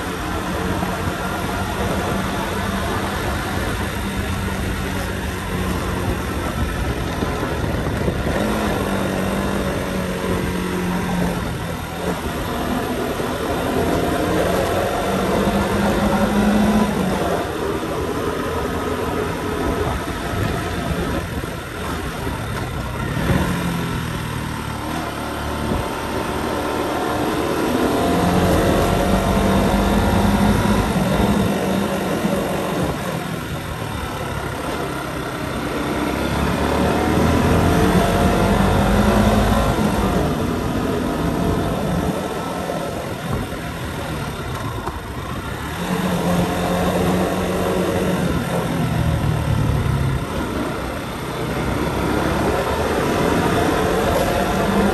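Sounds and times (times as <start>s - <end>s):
motorcycle engine revving: 0.0s - 54.9s
wind and road noise: 0.0s - 54.9s.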